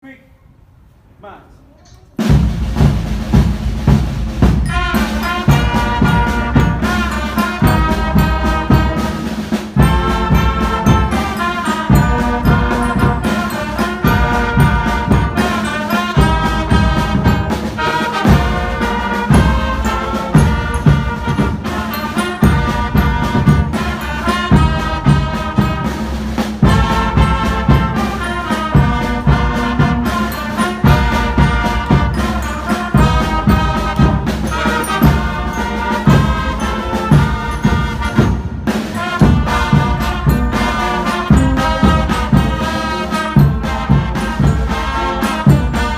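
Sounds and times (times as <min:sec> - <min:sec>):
music with horns and beat: 0:02.2 - 0:45.9.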